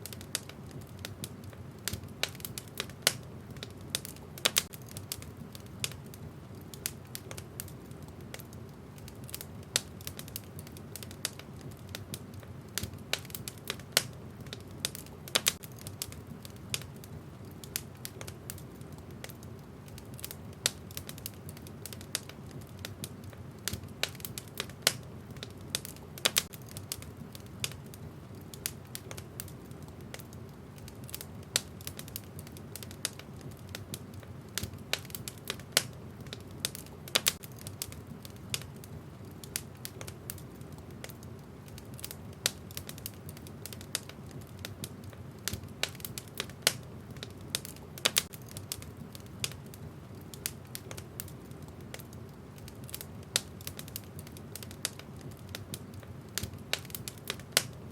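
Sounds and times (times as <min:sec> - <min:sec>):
logs crackling and popping: 0:00.0 - 0:57.9
low rumble of flames: 0:00.0 - 0:57.9.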